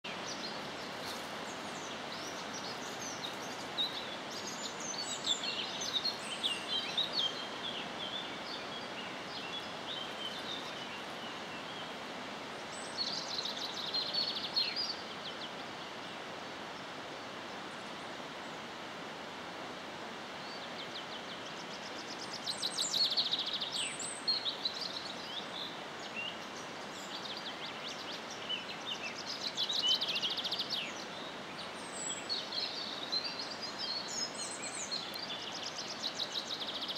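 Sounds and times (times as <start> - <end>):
songbirds singing: 0.0 - 36.9.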